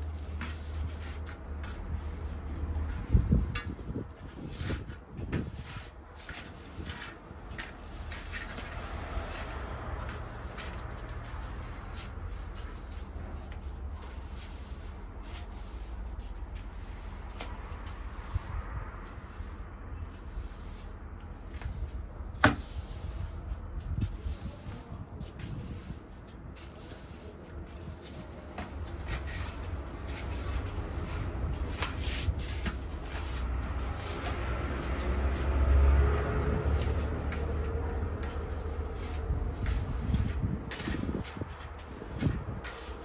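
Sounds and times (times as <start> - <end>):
broom sweeping hard floor: 0.0 - 43.0
distant traffic rumble: 0.0 - 43.0.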